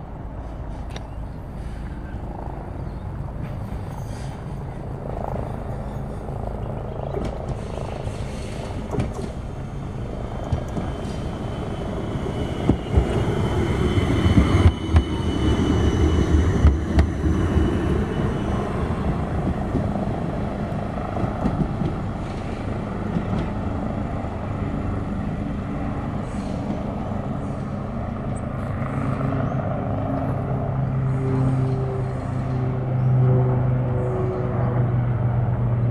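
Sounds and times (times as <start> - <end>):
tram wheels rumbling on rail: 0.0 - 35.9.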